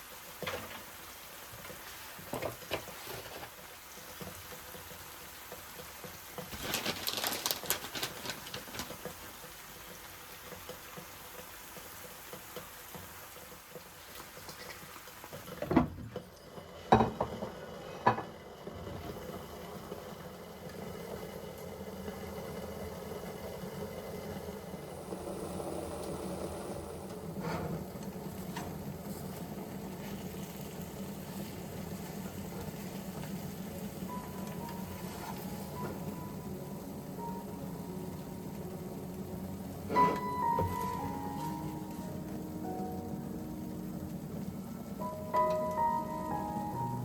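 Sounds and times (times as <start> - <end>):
food hissing on stove: 0.0 - 15.5, 16.7 - 45.4.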